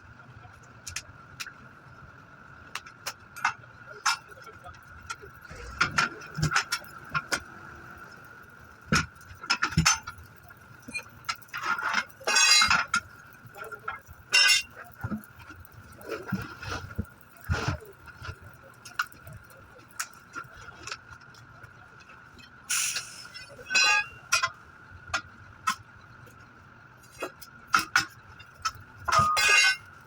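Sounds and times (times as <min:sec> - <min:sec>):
metal tools clinking on wheel rim: 0:03.4 - 0:21.4, 0:22.0 - 0:25.8, 0:27.0 - 0:30.0.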